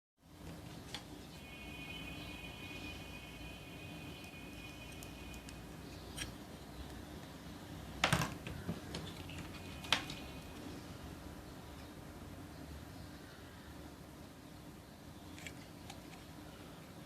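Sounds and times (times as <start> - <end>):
faint background hum: 0.2 - 17.0.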